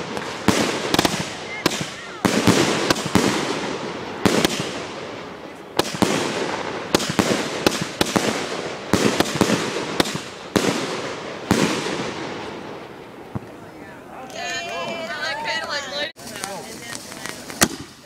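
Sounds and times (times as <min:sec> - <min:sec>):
hiss of firework bursts: 0:00.0 - 0:13.5, 0:16.3 - 0:18.0
fireworks bangs: 0:00.0 - 0:14.1, 0:14.9 - 0:18.0.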